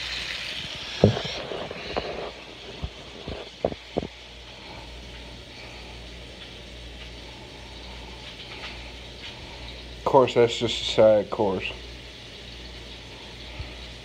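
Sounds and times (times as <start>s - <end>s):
bacon sizzling: 0.0s - 14.0s.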